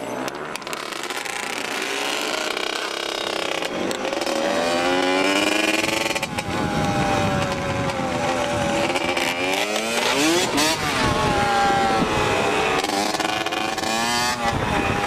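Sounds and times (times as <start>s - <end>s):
off-road vehicle engine revving: 0.5s - 15.0s.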